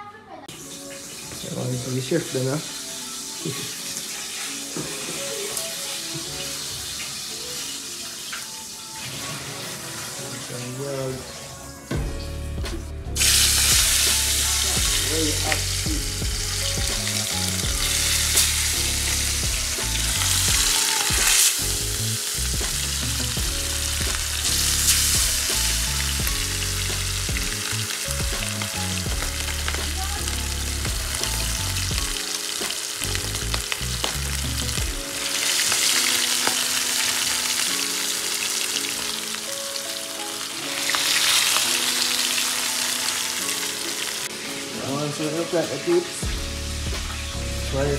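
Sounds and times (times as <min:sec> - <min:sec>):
fish frying in hot oil: 0:00.6 - 0:11.4, 0:13.2 - 0:47.9.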